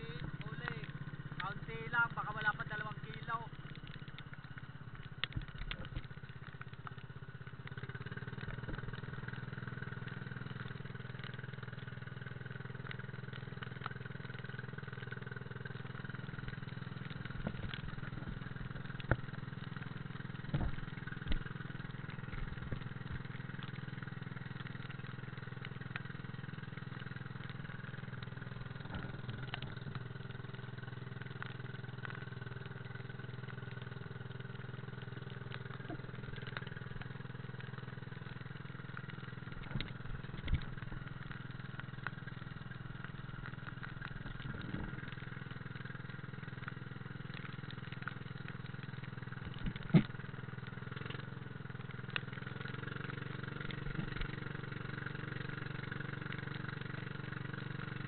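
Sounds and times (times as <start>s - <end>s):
small boat engine running: 0.0s - 58.0s.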